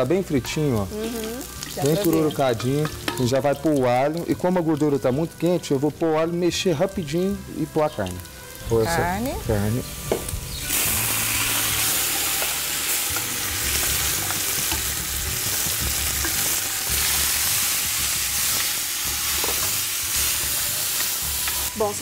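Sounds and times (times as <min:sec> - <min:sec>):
meat sizzling in hot fat: 0:00.0 - 0:22.0.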